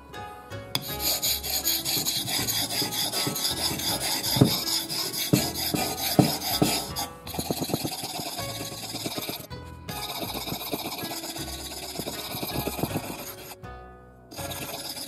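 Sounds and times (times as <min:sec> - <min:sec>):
knife scraping on whetstone: 0:00.8 - 0:13.6, 0:14.4 - 0:15.0.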